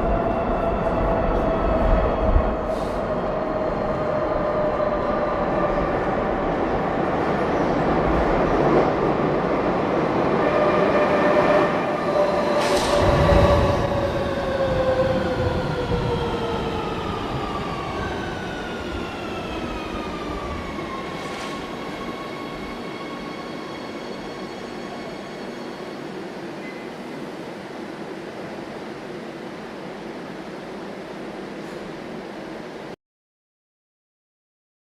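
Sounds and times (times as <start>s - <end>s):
metro train running: 0.0s - 33.0s.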